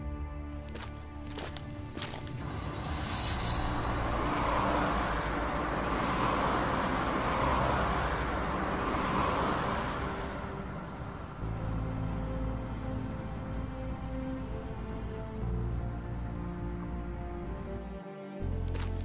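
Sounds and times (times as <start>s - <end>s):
truck convoy driving past: 0.8s - 17.8s.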